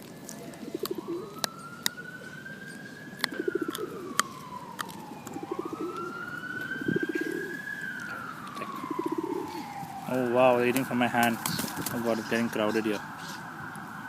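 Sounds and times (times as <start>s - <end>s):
pigeons cooing: 0.0s - 2.4s, 3.2s - 13.5s
emergency vehicle siren wailing: 0.0s - 14.0s.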